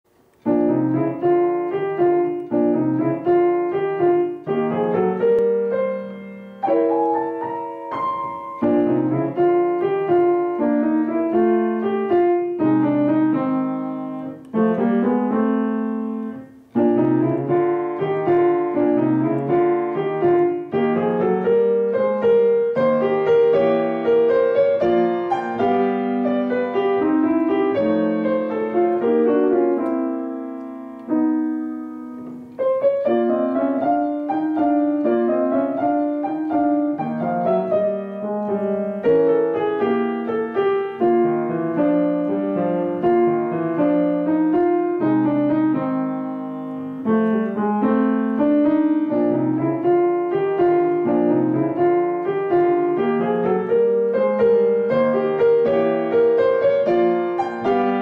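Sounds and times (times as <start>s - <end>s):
upright piano rag piece: 0.1s - 58.0s.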